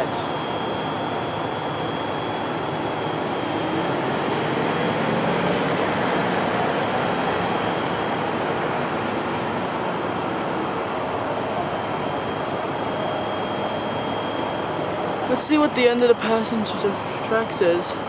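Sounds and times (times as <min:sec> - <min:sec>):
diesel locomotive idling: 0:00.0 - 0:18.0
faint high whine: 0:00.0 - 0:18.0.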